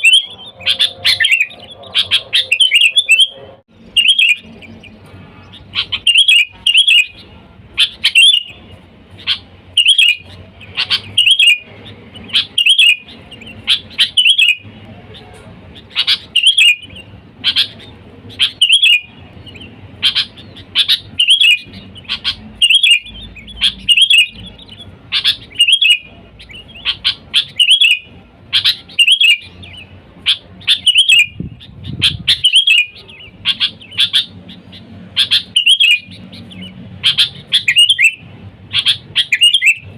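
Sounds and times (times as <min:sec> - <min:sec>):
bulbul chirping call: 0:00.0 - 0:14.7, 0:15.8 - 0:31.4, 0:32.0 - 0:39.9.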